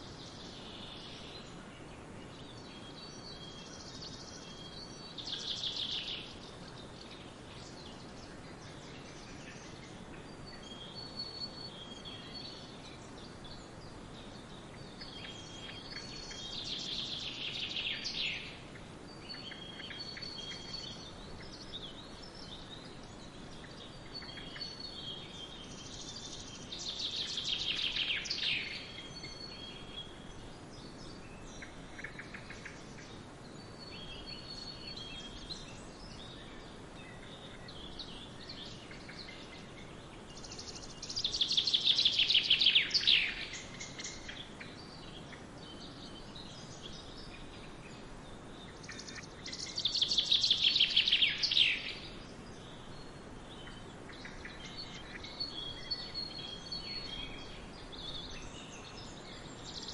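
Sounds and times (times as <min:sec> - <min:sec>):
faint hiss: 0:00.0 - 0:59.9
songbirds chirping: 0:00.0 - 0:59.9.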